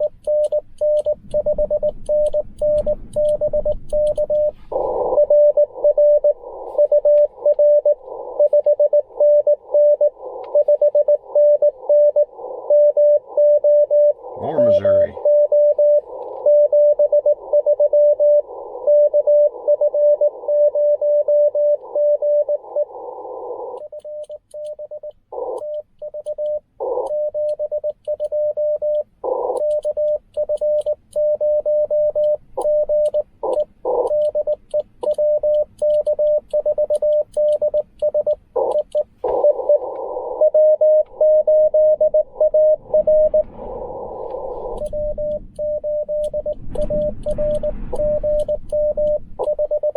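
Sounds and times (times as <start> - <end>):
receiver hiss: 0.0 - 15.3, 21.8 - 49.9
morse code tone: 0.0 - 23.0, 23.8 - 49.9.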